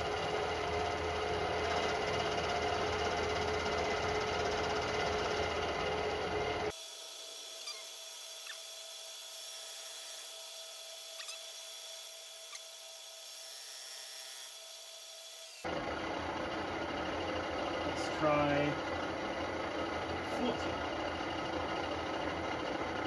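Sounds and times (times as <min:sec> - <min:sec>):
milling machine whine: 0:00.0 - 0:23.0.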